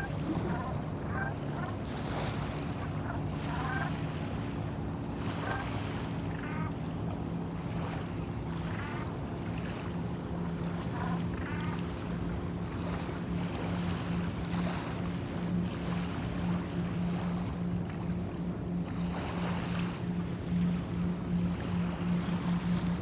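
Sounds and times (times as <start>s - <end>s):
boat motor drone: 0.0s - 23.0s
water noise: 0.0s - 23.0s
wind: 0.0s - 23.0s.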